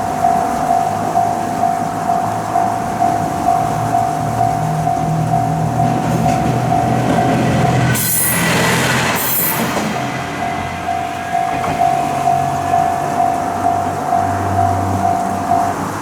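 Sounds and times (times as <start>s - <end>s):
level-crossing warning bell: 0.0s - 16.0s
train passing with hiss: 0.0s - 16.0s.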